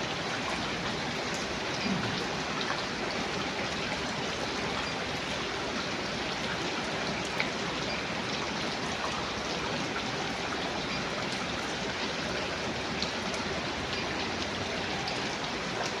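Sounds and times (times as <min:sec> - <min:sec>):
raindrops ticking: 0:00.0 - 0:16.0
steady rain hiss: 0:00.0 - 0:16.0.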